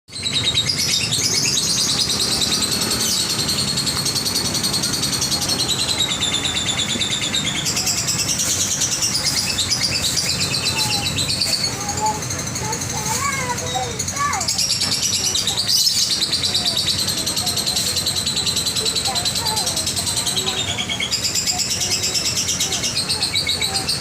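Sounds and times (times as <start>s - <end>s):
lovebird chattering trill: 0.1s - 24.0s.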